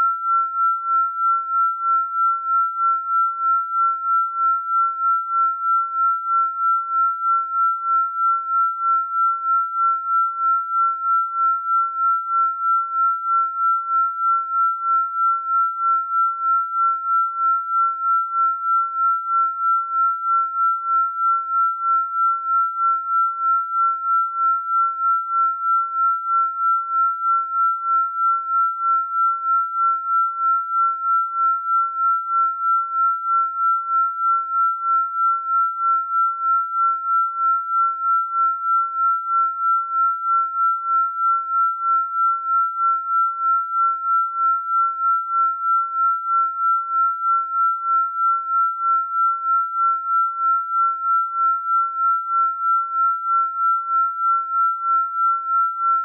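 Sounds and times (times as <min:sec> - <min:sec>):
pulsing high sine tone: 0:00.0 - 0:56.0.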